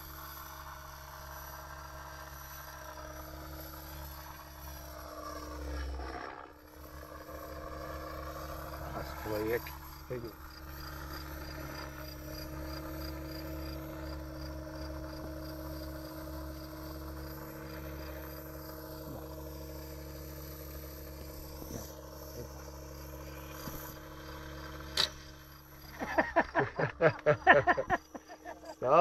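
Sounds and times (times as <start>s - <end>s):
loud rapid pulses: 0.0s - 29.0s
rc helicopter hum and whine: 0.0s - 29.0s.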